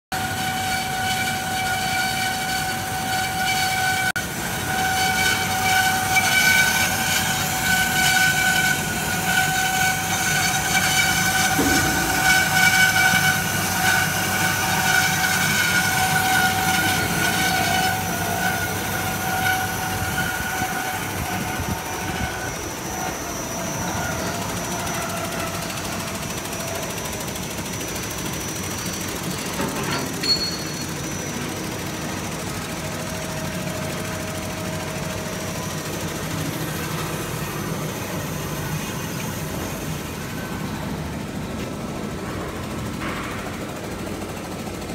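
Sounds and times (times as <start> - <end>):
machine running noise: 0.1 - 44.9
band saw blade whining: 0.2 - 42.1.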